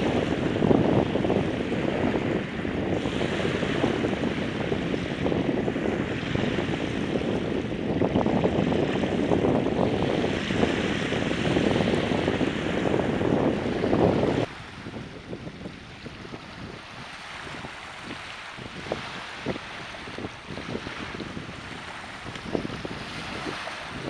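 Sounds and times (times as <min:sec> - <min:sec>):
surf waves washing on beach: 0:00.0 - 0:24.0
wind buffeting microphone: 0:00.0 - 0:24.0.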